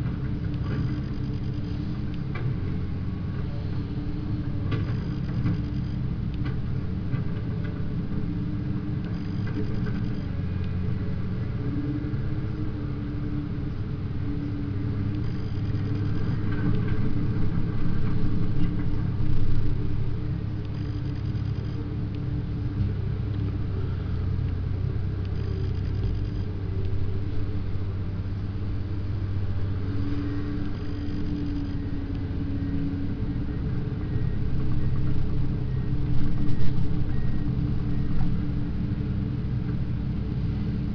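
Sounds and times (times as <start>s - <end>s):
excavator diesel engine rumbling: 0.0s - 40.9s.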